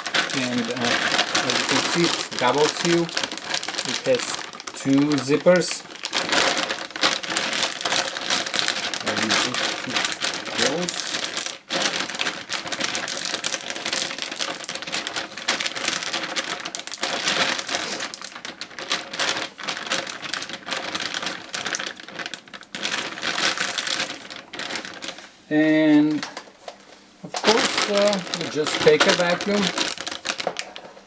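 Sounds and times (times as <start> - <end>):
plastic bag crinkling: 0.0 - 31.0.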